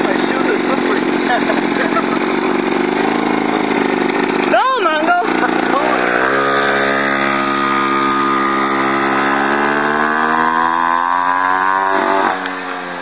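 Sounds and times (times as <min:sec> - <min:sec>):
small motorcycle engine revving: 0:00.0 - 0:13.0.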